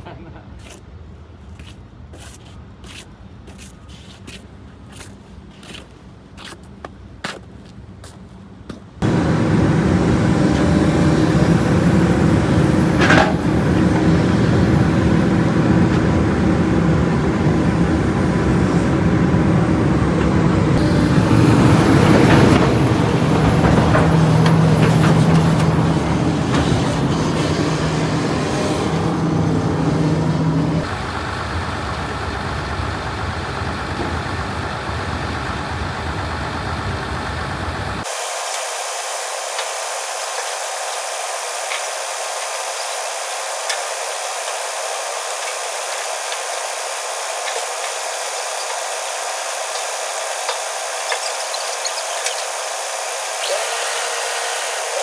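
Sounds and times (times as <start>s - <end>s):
truck engine running: 9.0s - 55.0s.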